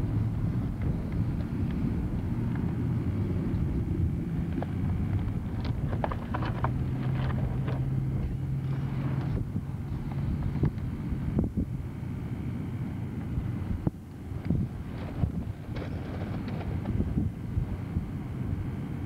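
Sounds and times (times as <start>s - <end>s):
low engine drone: 0.0s - 19.0s
wind on microphone: 0.0s - 19.0s.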